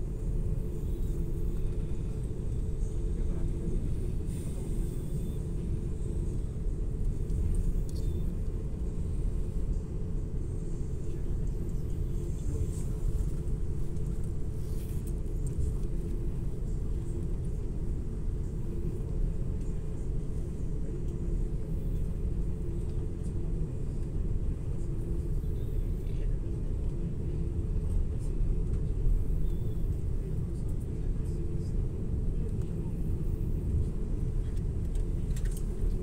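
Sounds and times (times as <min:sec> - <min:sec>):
airliner cabin rumble while taxiing: 0:00.0 - 0:36.0.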